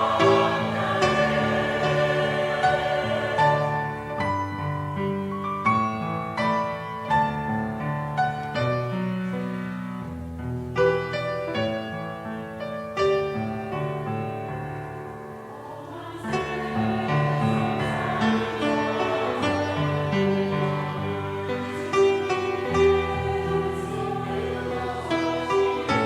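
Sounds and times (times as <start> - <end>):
piano playing hymn chords: 0.0 - 26.0.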